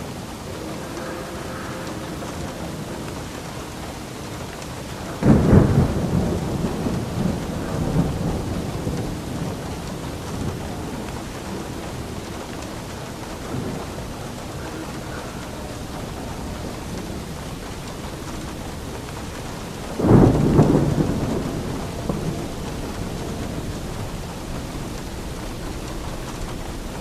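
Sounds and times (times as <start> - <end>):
steady rain: 0.0 - 27.0
thunder clap and rumble: 0.0 - 27.0.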